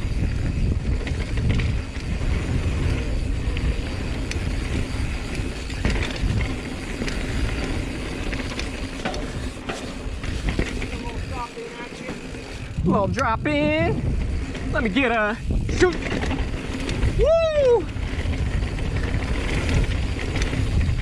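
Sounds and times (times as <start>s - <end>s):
bike rattling and clicking: 0.0s - 21.0s
tyres rumbling on dirt: 0.0s - 21.0s
wind: 0.0s - 21.0s.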